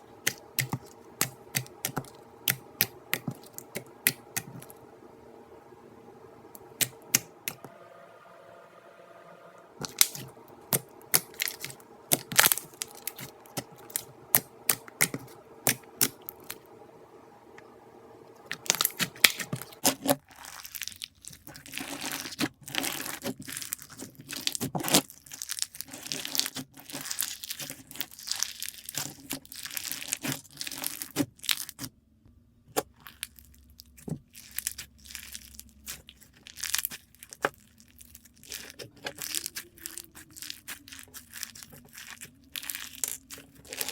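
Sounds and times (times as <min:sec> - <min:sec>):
slime crackling and popping: 0:00.2 - 0:04.7, 0:09.8 - 0:16.6, 0:18.5 - 0:31.9, 0:32.9 - 0:43.9.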